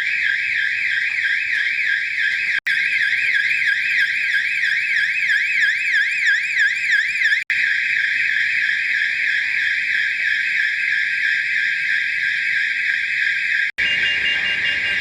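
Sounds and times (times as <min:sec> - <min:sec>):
fire alarm warbling tone: 0:00.0 - 0:15.0.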